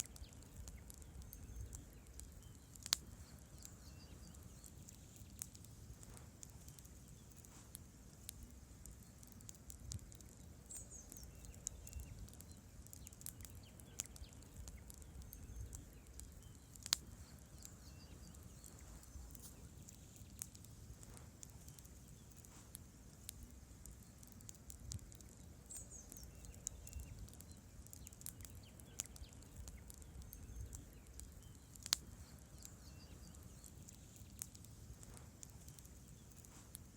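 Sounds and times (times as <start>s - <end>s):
campfire crackling and popping: 0.0s - 36.9s
low rumble of burning: 0.0s - 36.9s.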